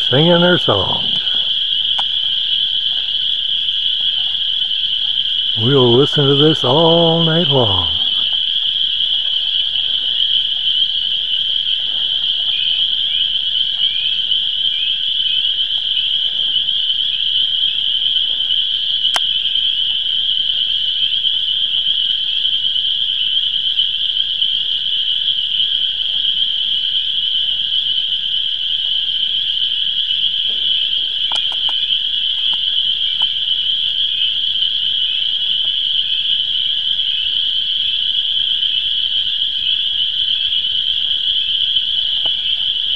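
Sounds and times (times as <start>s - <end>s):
chorus of frogs calling: 0.0s - 42.9s.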